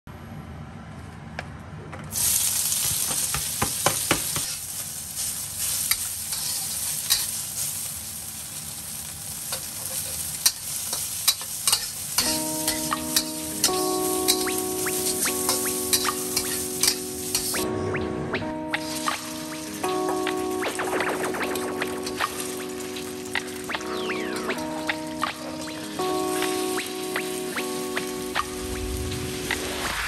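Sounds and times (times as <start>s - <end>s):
food sizzling in a hot pan: 2.1s - 17.6s, 18.8s - 30.0s
sharp crackles and clicks: 4.4s - 8.0s, 9.5s - 30.0s.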